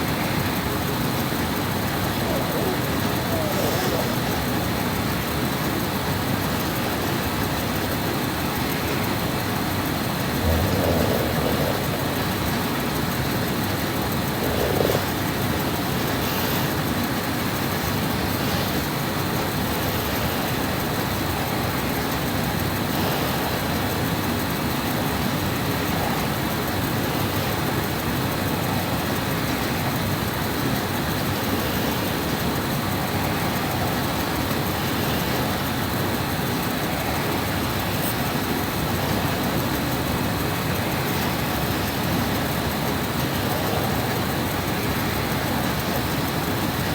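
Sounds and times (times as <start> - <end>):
room noise hiss: 0.0 - 46.9.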